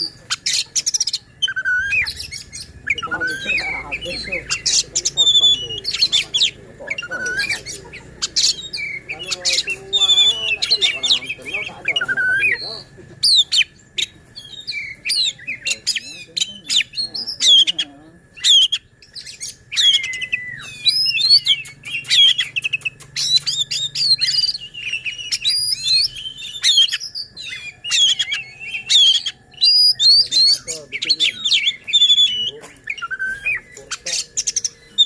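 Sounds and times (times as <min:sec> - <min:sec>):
songbird singing: 0:00.0 - 0:35.0.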